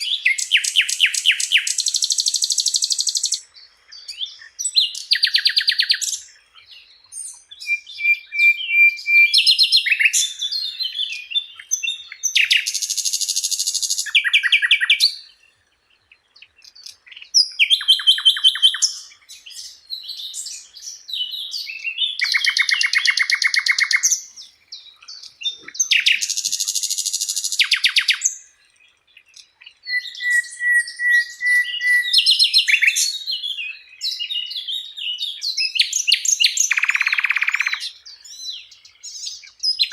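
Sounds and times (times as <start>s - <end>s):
flycatcher singing: 0.0s - 39.9s.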